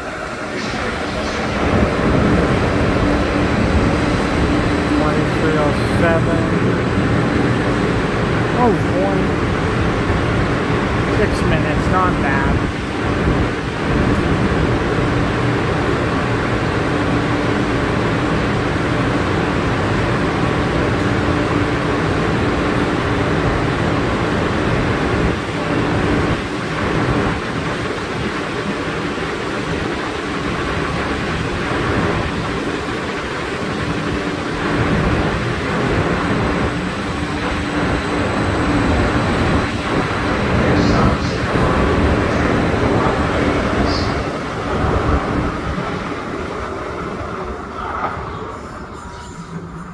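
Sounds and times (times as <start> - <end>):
light rail train rumbling: 0.0 - 49.9.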